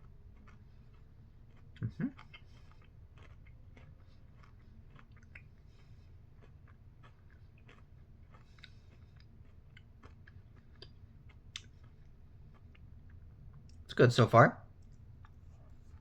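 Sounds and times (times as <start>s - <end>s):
chewing crunchy chocolate: 0.0s - 13.9s
low steady hum: 0.0s - 16.0s.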